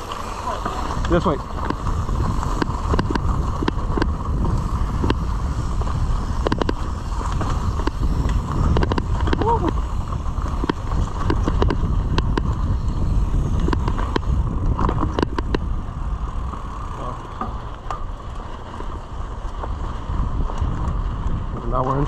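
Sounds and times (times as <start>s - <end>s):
bike rattling and knocking: 0.0s - 22.0s
wind on microphone: 0.0s - 22.0s.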